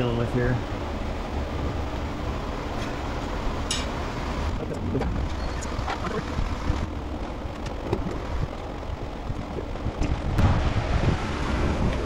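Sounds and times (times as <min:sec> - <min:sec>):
low rumble: 0:00.6 - 0:12.0.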